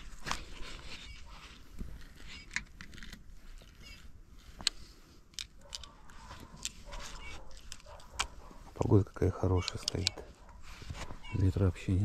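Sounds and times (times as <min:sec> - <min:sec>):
faint steady background: 0:00.0 - 0:12.0.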